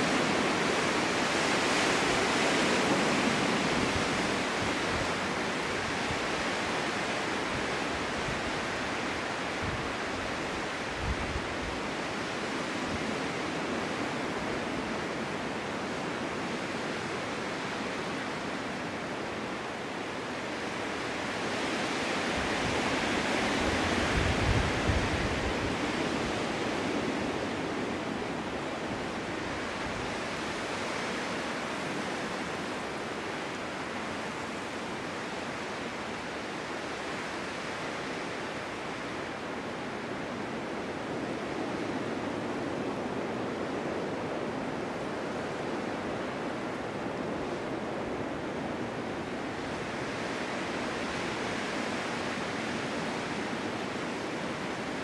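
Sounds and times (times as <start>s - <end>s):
low wind buffet: 0.0s - 55.0s
snowstorm wind gusting: 0.0s - 55.0s.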